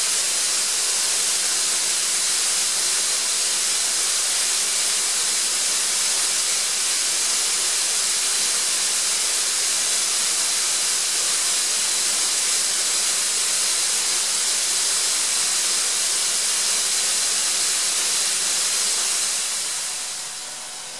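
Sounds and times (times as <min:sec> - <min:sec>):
compressor air hiss: 0:00.0 - 0:20.9.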